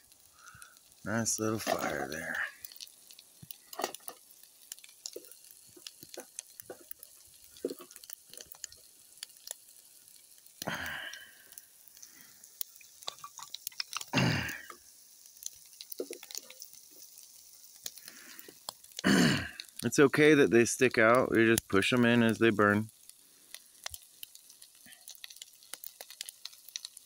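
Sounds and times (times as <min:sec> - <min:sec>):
fire crackling and popping: 0:00.0 - 0:27.0
food sizzling in a skillet: 0:00.0 - 0:27.0.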